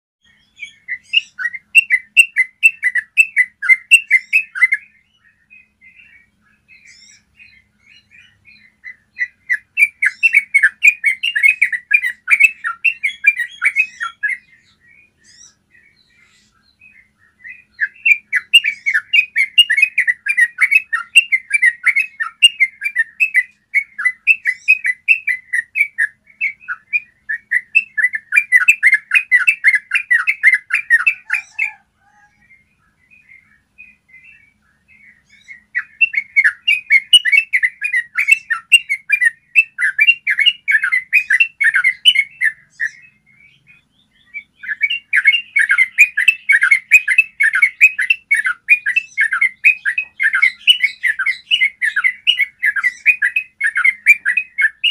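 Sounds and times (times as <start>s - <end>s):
bird singing rolling phrases: 0.2s - 54.9s.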